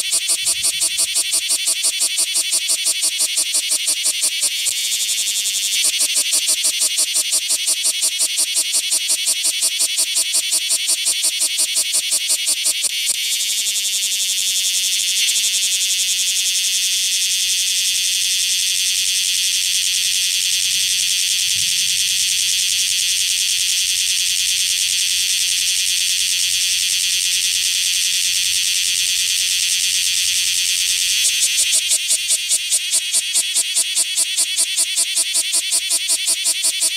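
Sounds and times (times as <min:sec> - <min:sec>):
cicada buzzing: 0:00.0 - 0:36.9.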